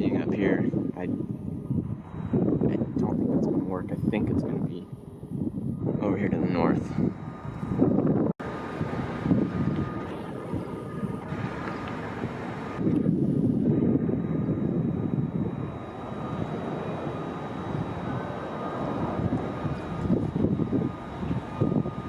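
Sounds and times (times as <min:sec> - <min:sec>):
jet airliner engines rumbling: 0:00.0 - 0:22.0.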